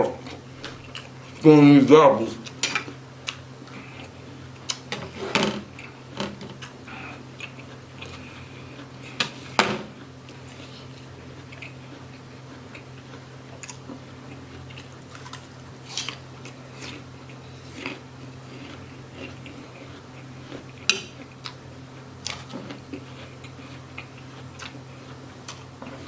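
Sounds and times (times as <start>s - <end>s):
person chewing crisp apple: 0.0s - 1.5s, 2.3s - 26.0s
steady low hum: 0.0s - 26.0s.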